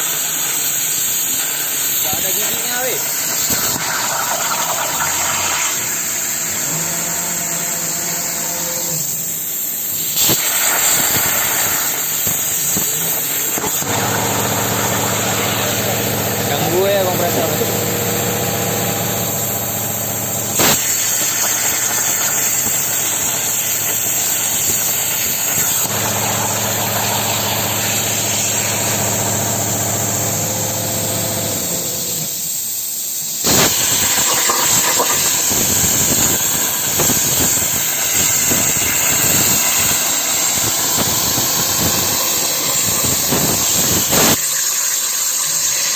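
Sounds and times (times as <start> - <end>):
plasma cutter hissing: 0.0 - 45.9.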